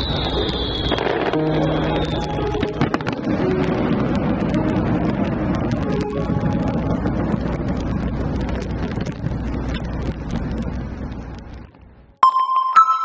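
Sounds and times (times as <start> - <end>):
fireworks crackling: 0.0 - 12.2
low rumble: 0.0 - 12.2.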